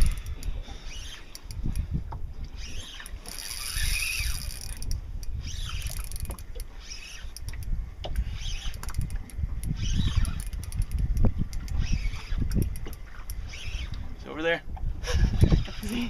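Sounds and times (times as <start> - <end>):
spinning reel whirring: 0.0 - 1.9, 2.5 - 13.9, 15.4 - 16.0
reel clicks: 0.0 - 14.1
wind rumble on microphone: 0.0 - 16.0.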